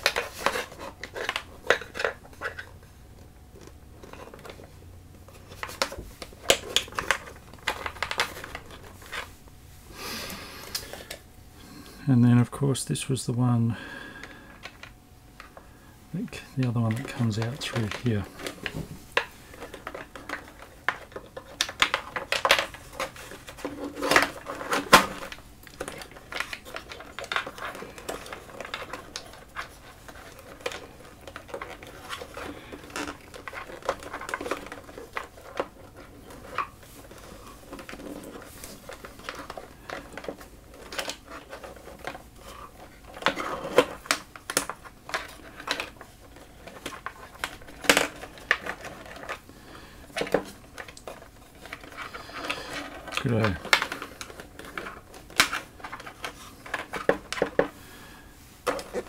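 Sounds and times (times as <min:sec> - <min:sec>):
cable handling clicks and scrapes: 0:00.0 - 0:09.3, 0:16.2 - 0:59.0.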